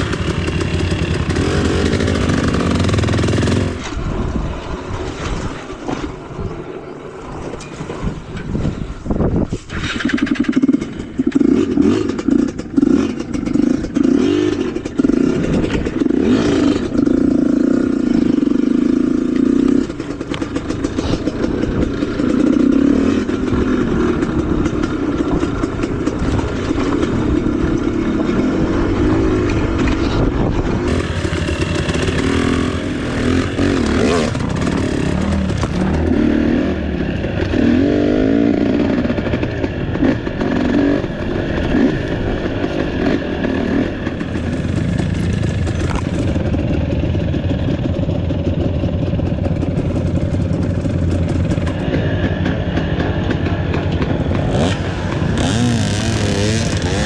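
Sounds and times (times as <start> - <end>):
motorcycle engine revving: 0.0 - 5.6, 9.7 - 57.0.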